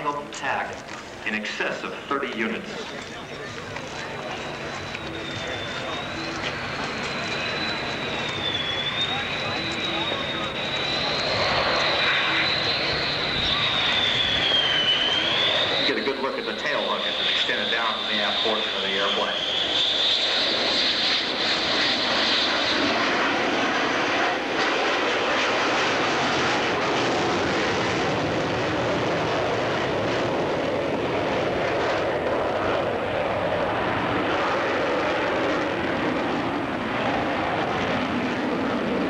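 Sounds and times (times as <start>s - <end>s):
high whine: 0.0s - 39.0s
jet fighter flying past: 0.0s - 39.0s.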